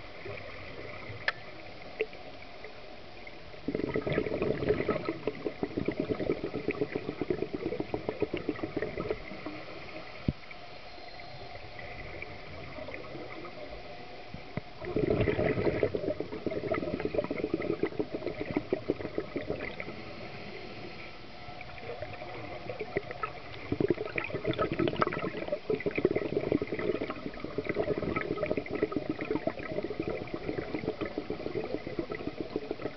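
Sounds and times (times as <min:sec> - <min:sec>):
underwater bubbles gurgling: 0:00.0 - 0:32.9.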